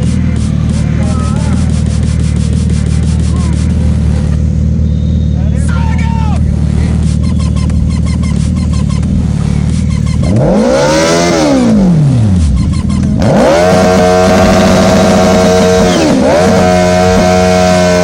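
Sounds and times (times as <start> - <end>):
motorcycle engine revving: 0.0 - 5.6, 6.3 - 18.0.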